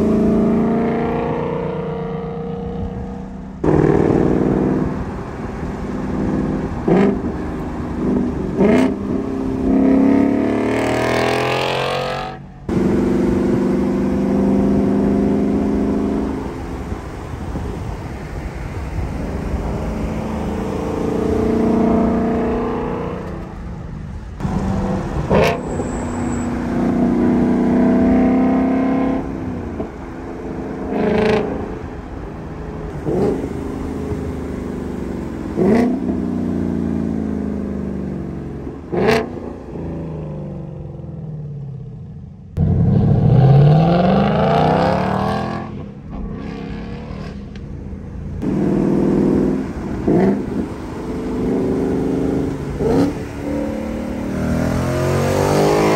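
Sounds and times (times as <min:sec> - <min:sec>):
car exhaust accelerating: 0:00.0 - 0:55.9.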